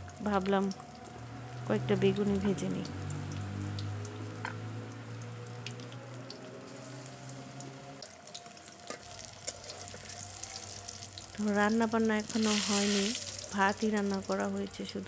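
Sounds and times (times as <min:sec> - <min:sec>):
slices sizzling in hot oil: 0:00.0 - 0:15.0.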